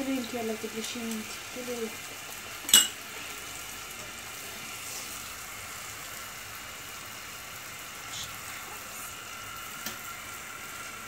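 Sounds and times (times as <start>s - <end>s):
dough balls sizzling in hot oil: 0.0s - 11.0s.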